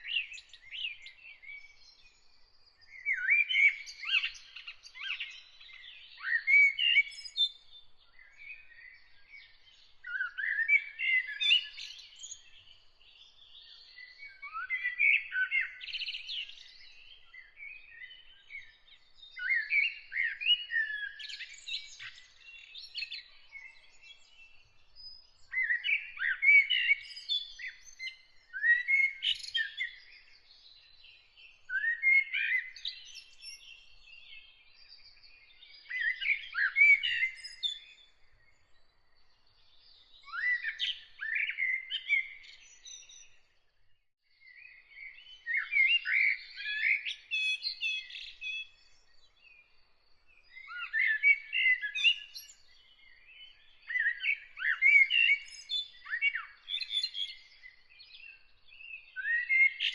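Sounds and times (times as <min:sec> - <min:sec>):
faint bird chirping: 0:00.0 - 0:59.9.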